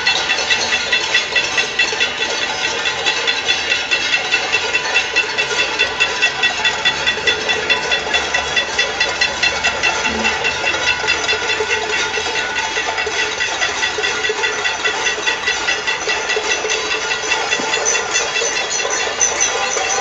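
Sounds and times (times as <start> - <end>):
people banging pots and pans: 0.0 - 20.0.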